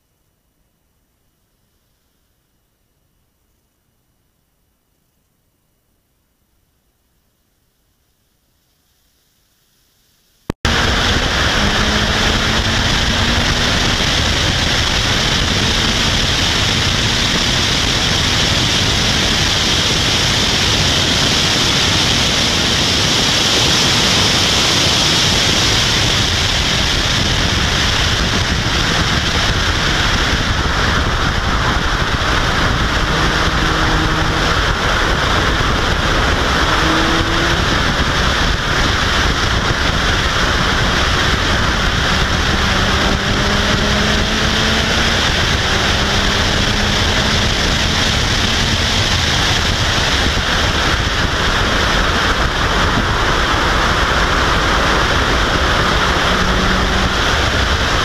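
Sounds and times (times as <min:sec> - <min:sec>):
faint car engine: 0:10.6 - 0:58.0
wind buffeting microphone: 0:10.6 - 0:58.0.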